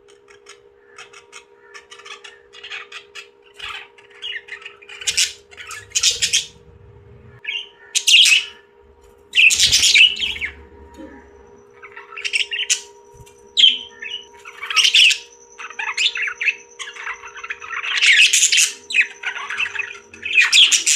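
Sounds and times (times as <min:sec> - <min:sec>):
faint electrical hum: 0:00.0 - 0:20.9
parrots squawking and chirping: 0:00.1 - 0:08.6, 0:09.2 - 0:20.9.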